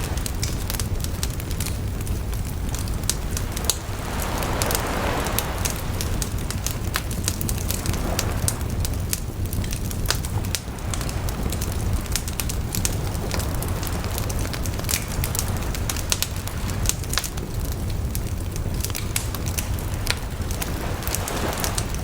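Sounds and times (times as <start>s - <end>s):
bonfire crackling and popping: 0.0s - 22.0s
low rumble of flames: 0.0s - 22.0s.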